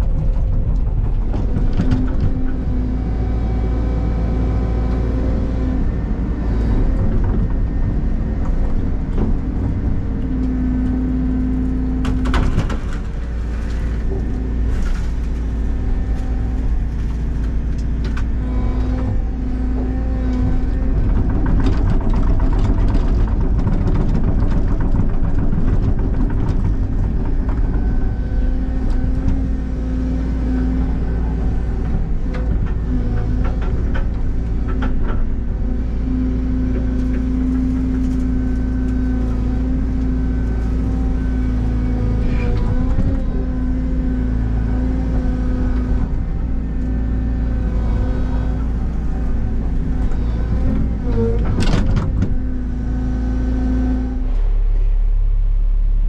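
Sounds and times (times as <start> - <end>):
excavator diesel engine rumbling: 0.0 - 56.0.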